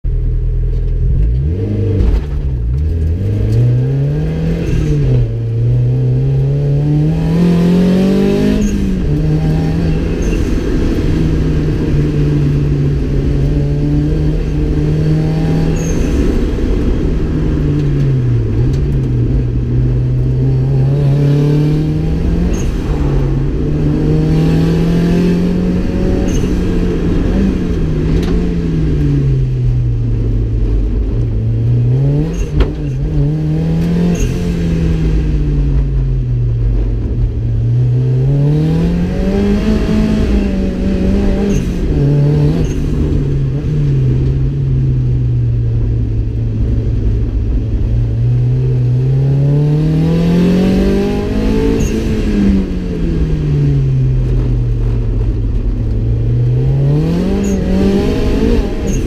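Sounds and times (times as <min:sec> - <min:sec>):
car engine revving: 0:00.1 - 0:59.0.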